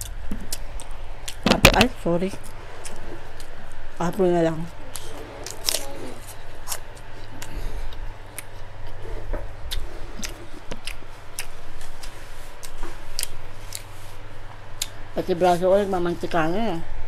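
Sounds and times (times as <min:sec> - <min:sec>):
apple crunching: 0:00.0 - 0:03.9, 0:04.6 - 0:15.0.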